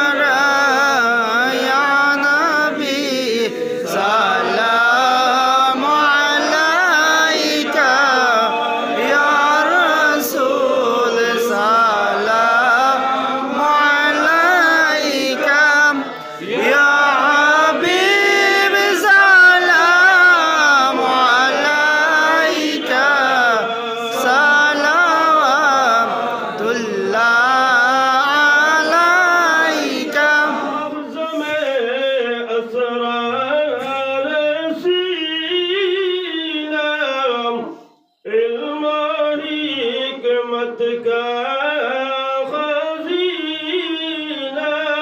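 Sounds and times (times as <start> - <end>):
devotional chanting voice: 0.0 - 45.0.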